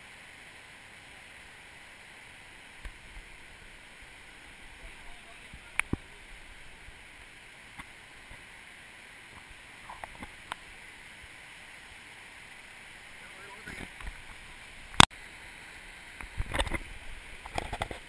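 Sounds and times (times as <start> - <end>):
river flowing over stones: 0.0 - 18.0.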